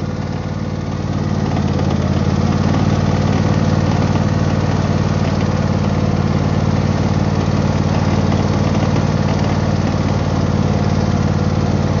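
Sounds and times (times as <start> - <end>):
riding mower running: 0.0 - 12.0.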